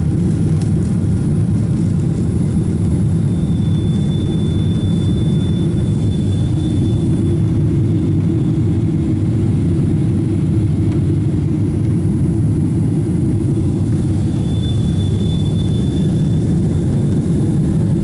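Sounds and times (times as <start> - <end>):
airflow past fuselage: 0.0 - 18.0
faint high whine: 0.0 - 18.0
jet engine rumble: 0.0 - 18.0.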